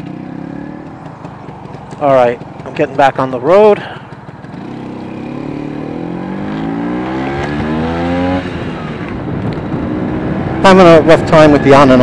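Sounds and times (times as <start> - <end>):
scooter engine accelerating: 0.0 - 12.0.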